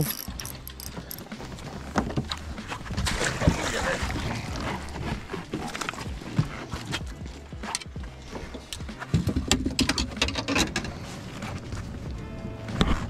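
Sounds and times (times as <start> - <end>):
fishing tackle clicks and knocks: 0.0 - 3.4, 4.2 - 11.8.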